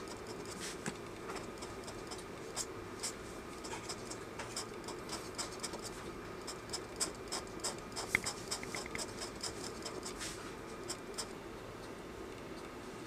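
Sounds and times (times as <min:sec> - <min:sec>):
craft knife scratching paper: 0:00.0 - 0:11.3.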